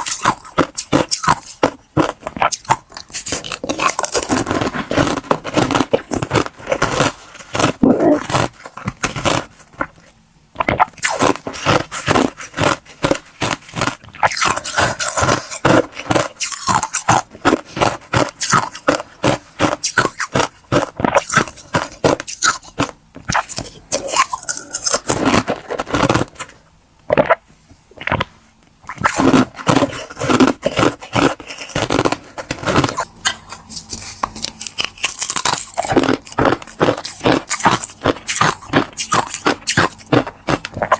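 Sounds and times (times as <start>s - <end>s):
ice being crunched: 0.0s - 9.9s, 11.0s - 26.5s, 28.9s - 33.1s, 34.3s - 40.9s.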